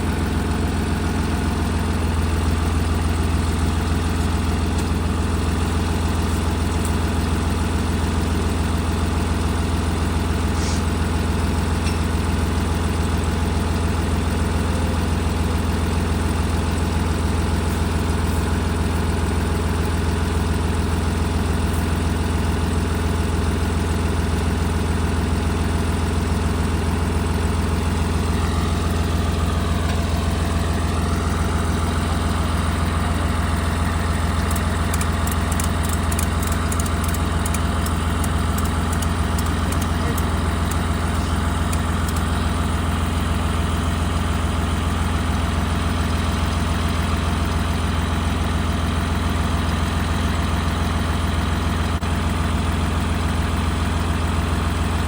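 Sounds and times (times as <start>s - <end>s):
vehicle engine humming: 0.0s - 46.8s.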